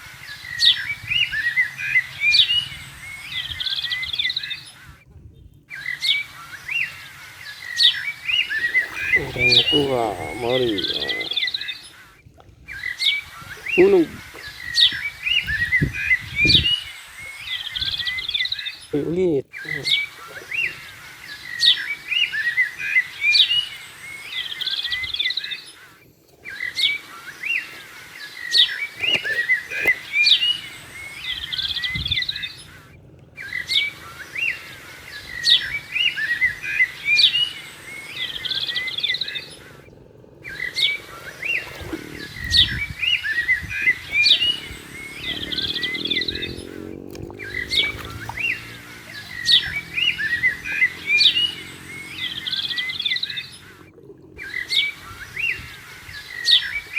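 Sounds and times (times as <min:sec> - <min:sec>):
birds chirping and tweeting: 0:00.0 - 0:56.9.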